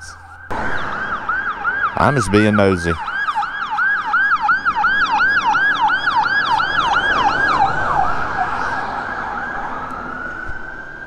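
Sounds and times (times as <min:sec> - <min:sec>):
ambulance siren yelping: 0:00.0 - 0:11.0.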